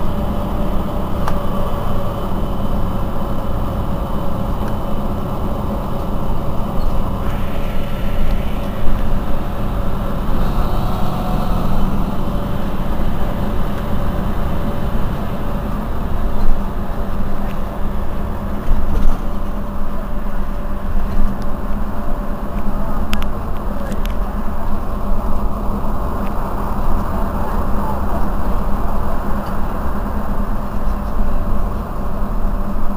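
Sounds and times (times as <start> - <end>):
bus engine drone: 0.0 - 32.9.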